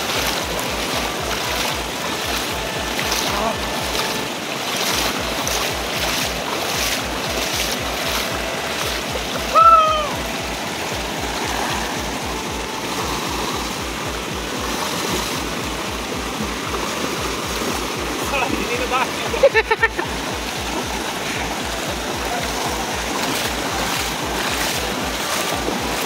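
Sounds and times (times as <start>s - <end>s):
background music with beat: 0.0s - 26.0s
stream splashing over stones: 0.0s - 26.0s.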